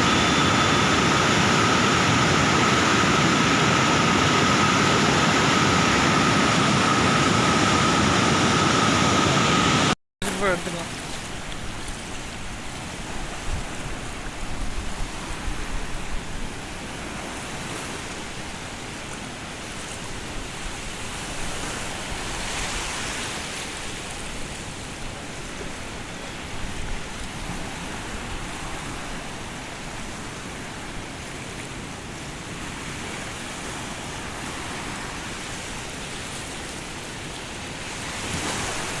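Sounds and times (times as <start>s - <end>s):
floodwater rushing: 0.0s - 26.7s, 27.7s - 39.0s.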